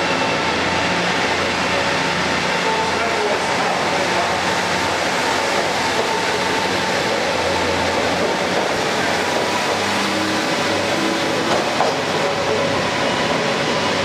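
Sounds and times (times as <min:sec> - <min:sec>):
diesel train passing: 0:00.0 - 0:14.0
steel wheels on rails: 0:02.7 - 0:14.0.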